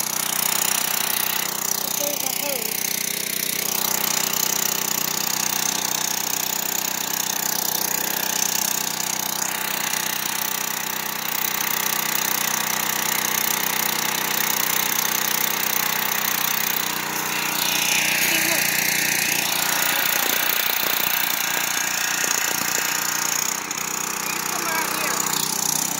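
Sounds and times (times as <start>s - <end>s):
pressure washer engine running: 0.0s - 25.9s.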